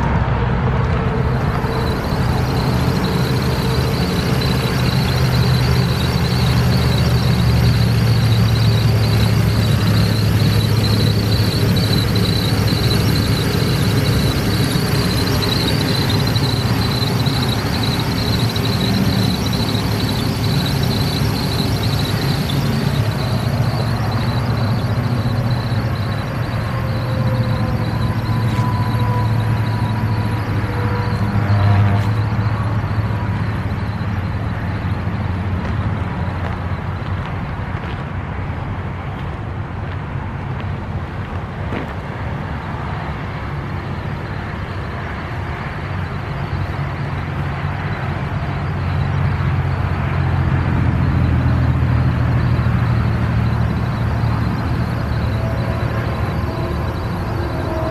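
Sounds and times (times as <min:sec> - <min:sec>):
high-pitched whine: 0:00.0 - 0:39.6, 0:40.2 - 0:57.9
engine idling: 0:01.0 - 0:37.1, 0:46.5 - 0:57.9.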